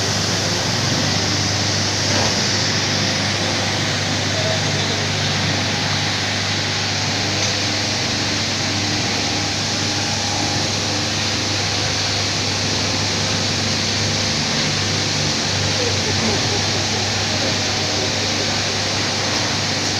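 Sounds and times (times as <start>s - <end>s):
machine humming and hissing: 0.0s - 19.9s.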